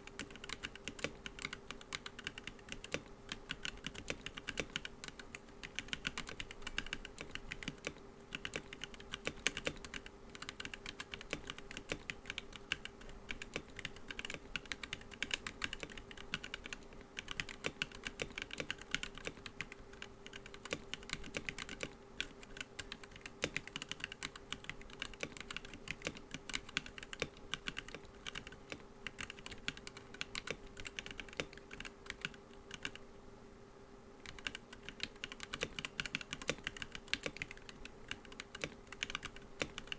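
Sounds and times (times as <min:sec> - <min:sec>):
mechanical keyboard typing: 0:00.0 - 0:33.0, 0:34.2 - 0:39.9.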